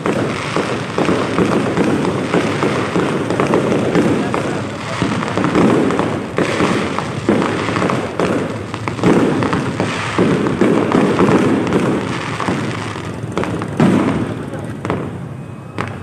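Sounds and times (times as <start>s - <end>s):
fireworks booming: 0.0s - 16.0s
fireworks crackling: 0.0s - 16.0s.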